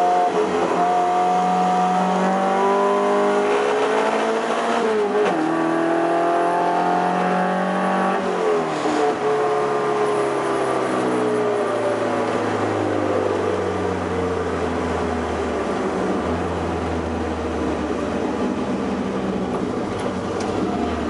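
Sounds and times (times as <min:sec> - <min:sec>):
car engine: 0:00.0 - 0:21.0
wind and road noise: 0:00.0 - 0:21.0.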